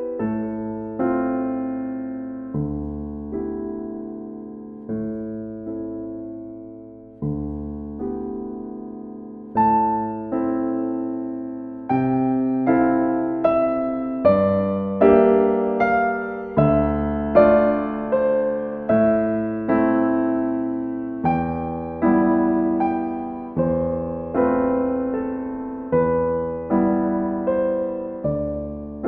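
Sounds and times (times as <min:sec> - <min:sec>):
slow gentle piano: 0:00.0 - 0:29.0.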